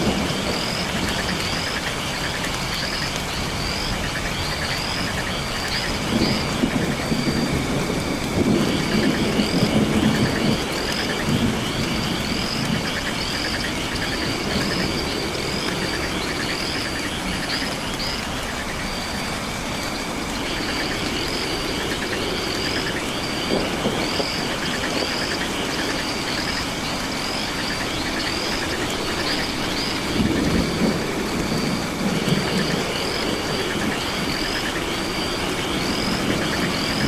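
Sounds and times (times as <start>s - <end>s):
frogs calling: 0.0s - 37.0s
low thunder rumble: 0.0s - 37.0s
steady rain: 0.0s - 37.0s.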